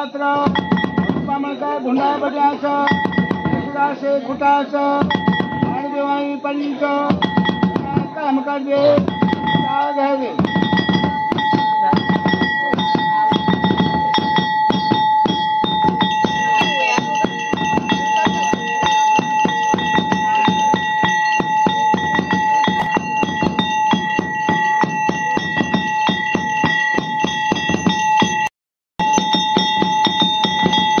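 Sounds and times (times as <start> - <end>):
bell ringing rapidly: 0.0 - 1.9, 2.7 - 3.9, 5.0 - 31.0
dense even drum beat: 0.4 - 1.4, 2.8 - 3.8, 5.0 - 5.9, 7.1 - 8.2, 8.8 - 31.0.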